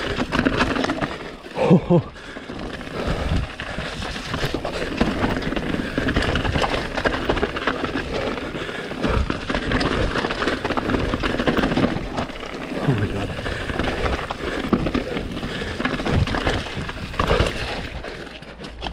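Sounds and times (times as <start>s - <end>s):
bike clattering and rattling: 0.0s - 18.9s
tyres rumbling on stones: 0.0s - 18.9s.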